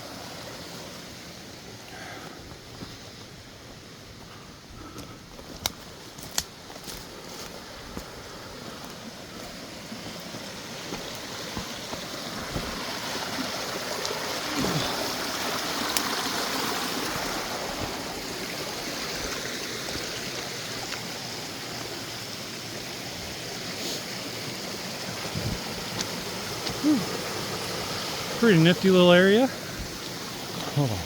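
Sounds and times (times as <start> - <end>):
creek water rushing over rocks: 0.0 - 31.0.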